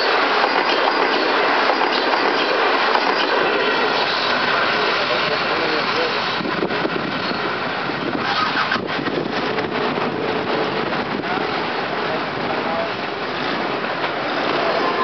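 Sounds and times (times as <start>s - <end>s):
rail clicks: 0.0s - 15.0s
train rumbling on rails: 0.0s - 15.0s.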